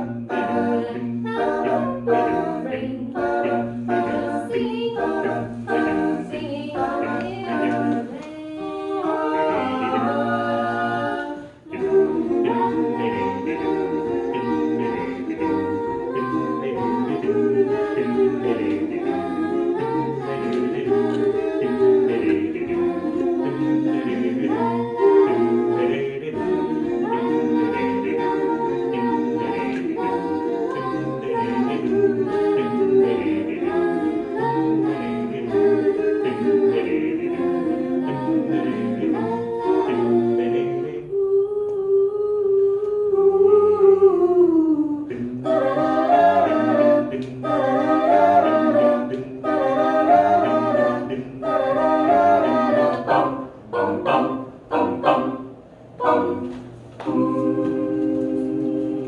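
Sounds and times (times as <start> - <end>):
a cappella group singing in harmony: 0.0 - 59.0.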